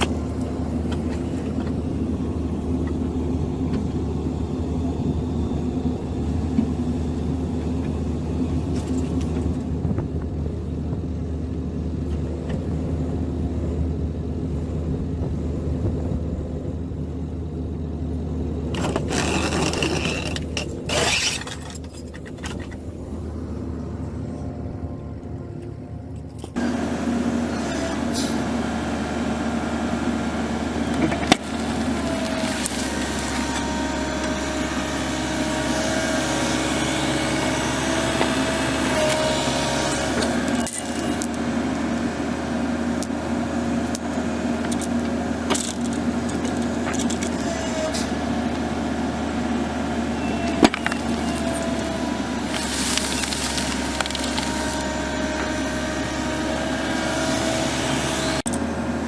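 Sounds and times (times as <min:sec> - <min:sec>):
machinery humming and whining: 0:00.0 - 0:59.0.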